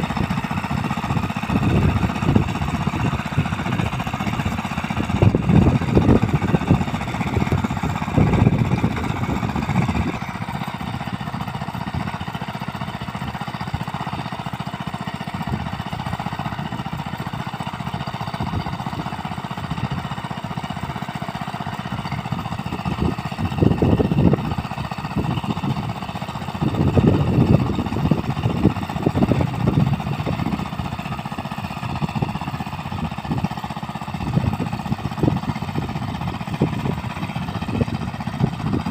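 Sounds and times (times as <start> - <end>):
small plough engine running: 0.0 - 38.9.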